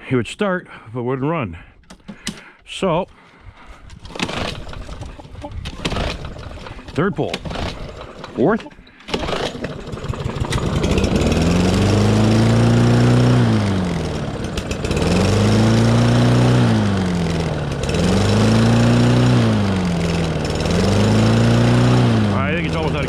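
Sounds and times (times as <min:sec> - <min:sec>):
lawnmower engine running unevenly: 0:04.0 - 0:23.0.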